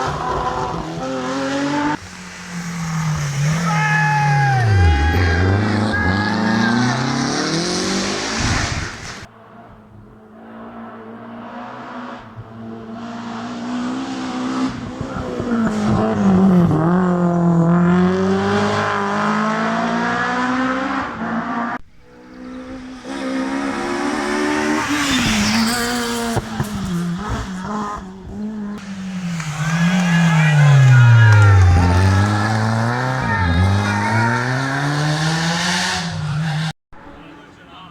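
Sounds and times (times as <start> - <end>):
rally cars passing at speed: 0.0 - 37.7.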